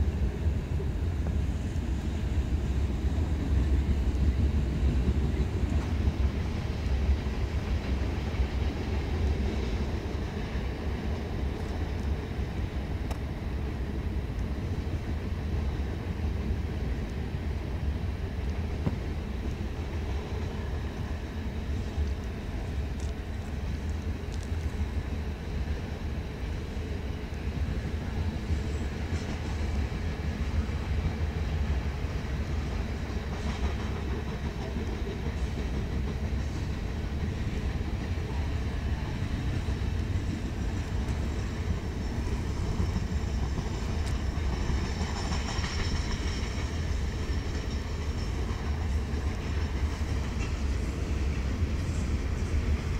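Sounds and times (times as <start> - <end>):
train rumbling on rails: 0.0 - 52.9
faint rail clicks: 3.4 - 15.8, 18.4 - 25.9, 26.5 - 52.9.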